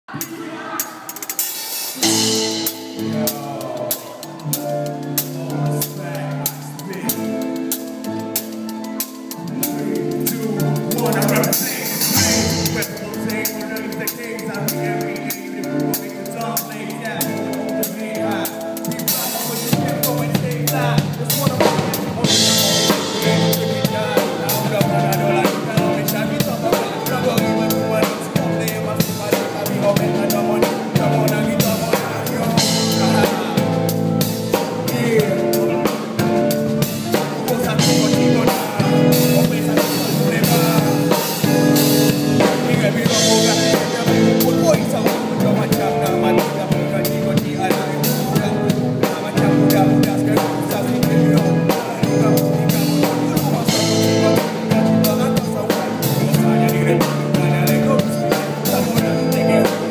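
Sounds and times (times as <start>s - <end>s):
band playing: 0.0s - 59.9s.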